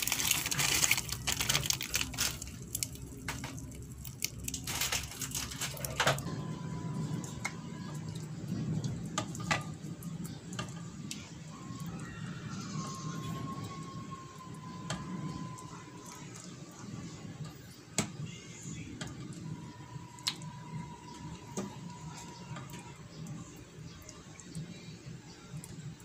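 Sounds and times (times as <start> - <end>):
thick soup dripping and squishing: 0.0 - 6.3, 7.1 - 26.0.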